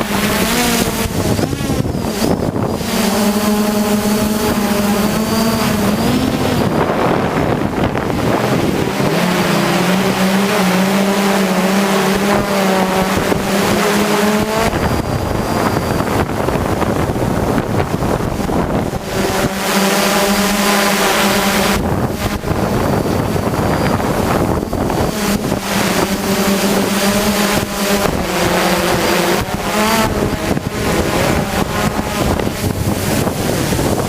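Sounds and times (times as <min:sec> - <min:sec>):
drone motors humming: 0:00.0 - 0:34.0
wind rushing over microphone: 0:00.0 - 0:34.0.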